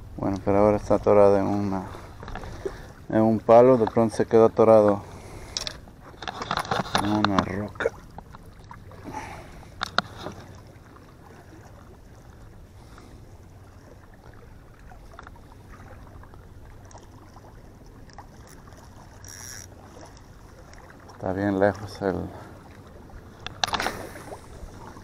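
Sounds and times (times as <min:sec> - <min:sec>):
water lapping against rocks: 0:00.0 - 0:25.0.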